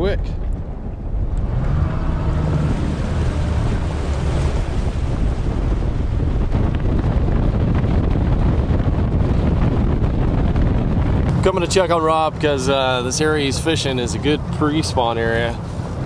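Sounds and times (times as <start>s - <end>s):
hull rushing through water: 0.0s - 16.0s
wind buffeting microphone: 0.0s - 16.0s
outboard motor: 0.4s - 16.0s.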